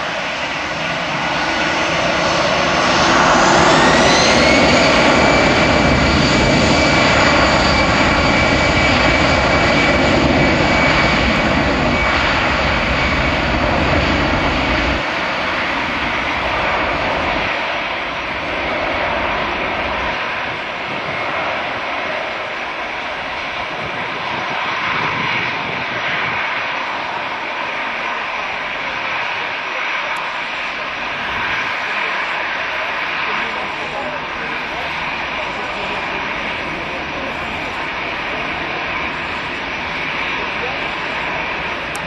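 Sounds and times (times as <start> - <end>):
high engine whine: 0.0 - 42.0
jet engines spooling up: 0.0 - 42.0.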